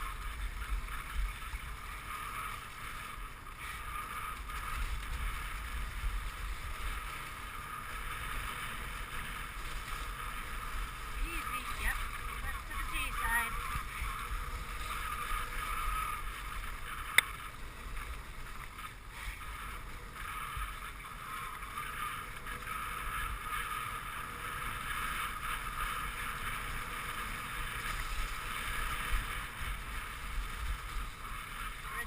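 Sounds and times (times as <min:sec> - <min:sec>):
sled runners hissing on snow: 0:00.0 - 0:32.0
wind rumble on microphone: 0:00.0 - 0:32.0.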